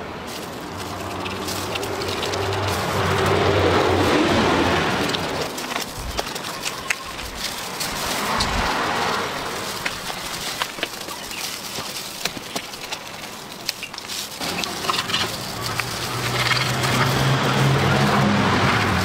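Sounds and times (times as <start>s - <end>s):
roasted skin crackling and crunching: 0.0s - 19.0s.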